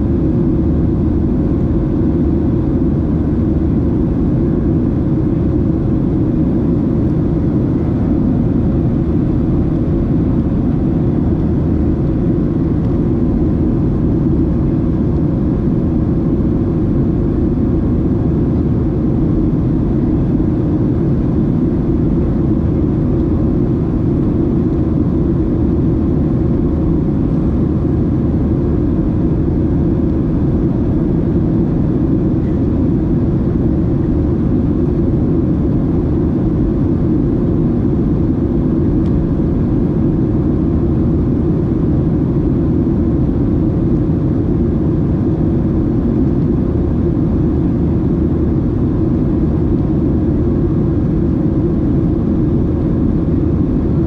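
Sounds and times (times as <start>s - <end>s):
aircraft engine and airflow roar: 0.0s - 54.0s
faint steady hum: 0.0s - 54.0s.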